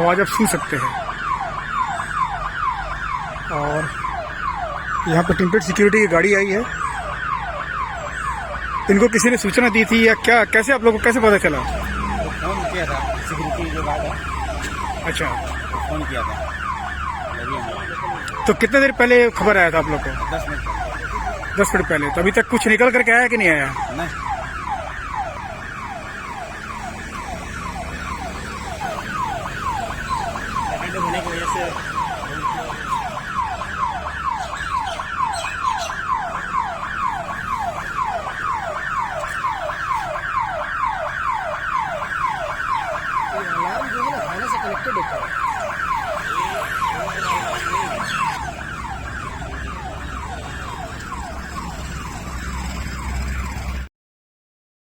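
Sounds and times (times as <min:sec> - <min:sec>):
electronic alarm siren: 0:00.0 - 0:53.9.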